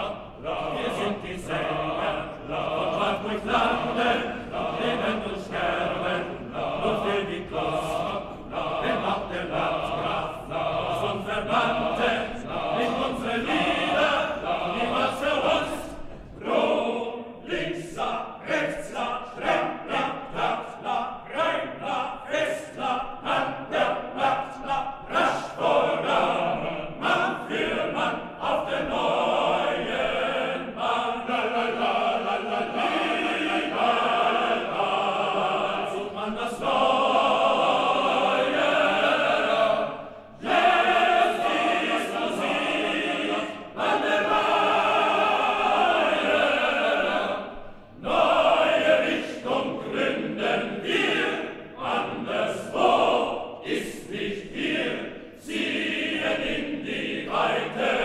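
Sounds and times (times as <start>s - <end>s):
men's chorus singing: 0.0s - 58.0s.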